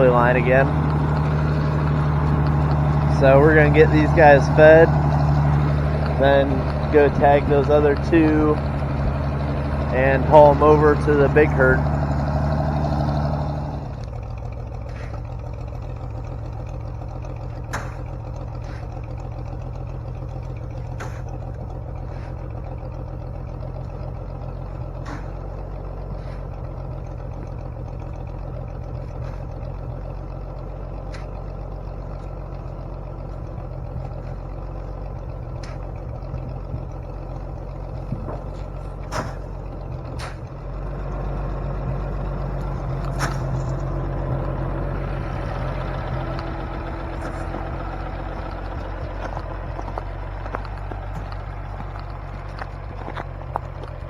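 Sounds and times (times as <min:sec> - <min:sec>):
sharp clanks: 0:00.0 - 0:54.0
tractor engine running: 0:00.0 - 0:54.0.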